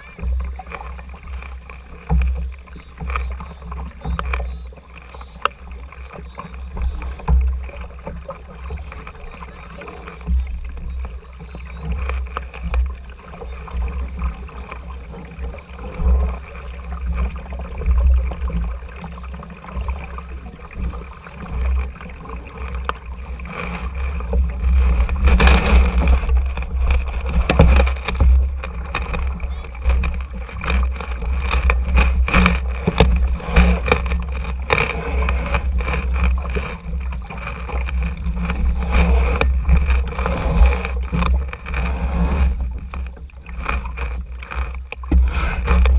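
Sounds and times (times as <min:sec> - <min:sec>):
water splashing against hull: 0:00.0 - 0:45.9.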